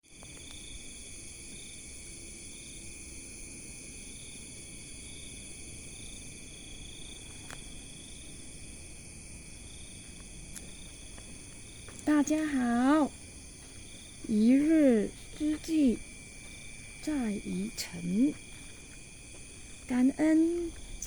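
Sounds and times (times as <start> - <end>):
insects chirring: 0.1 - 21.0.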